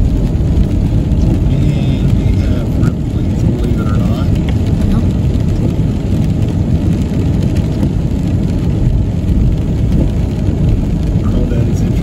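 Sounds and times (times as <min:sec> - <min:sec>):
car driving on wet road: 0:00.0 - 0:12.0
rain falling on car: 0:00.0 - 0:12.0.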